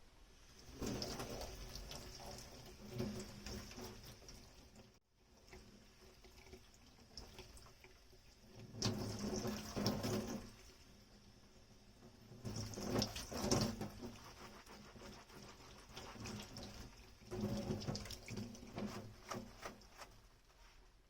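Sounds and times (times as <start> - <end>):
tap water splashing onto dishes: 0.6 - 11.0, 12.1 - 20.0.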